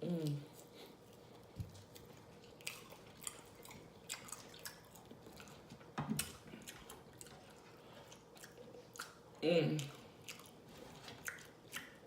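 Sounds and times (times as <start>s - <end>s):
person chewing with lip-smacking: 0.0s - 12.0s.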